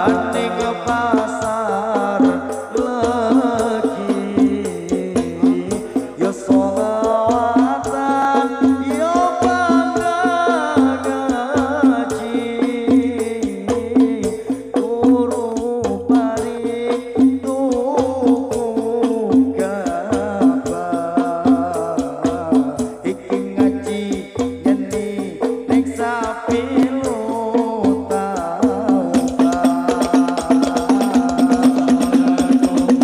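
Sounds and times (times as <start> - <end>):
frame drums: 0.0 - 33.0
man singing into microphone: 0.0 - 33.0.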